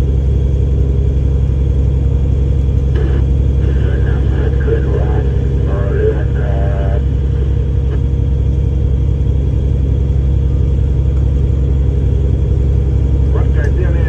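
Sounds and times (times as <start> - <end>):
diesel boat engine humming: 0.0 - 14.0.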